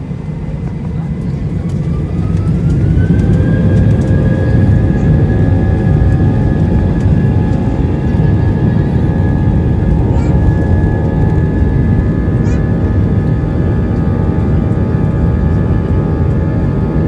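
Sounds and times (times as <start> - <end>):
jet engines spooling up: 0.0 - 15.6.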